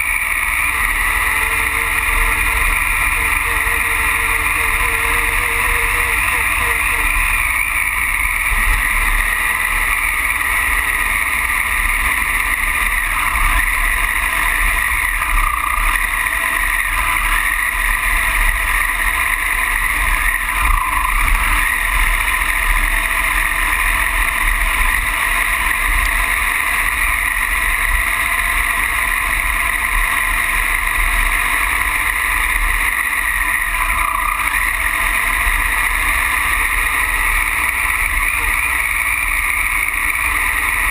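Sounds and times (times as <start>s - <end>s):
motorcycle engine droning: 0.0s - 40.9s.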